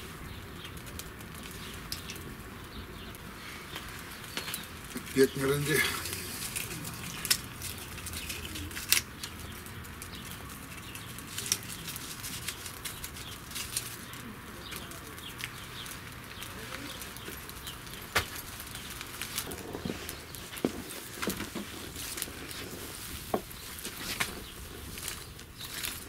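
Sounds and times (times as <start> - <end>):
bark tearing and crackling: 0.0 - 26.0.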